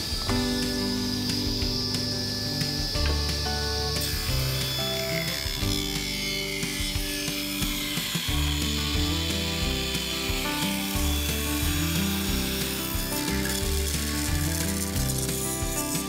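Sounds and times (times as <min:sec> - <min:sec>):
background music with bass line: 0:00.0 - 0:16.0
table saw ripping wood: 0:00.0 - 0:16.0.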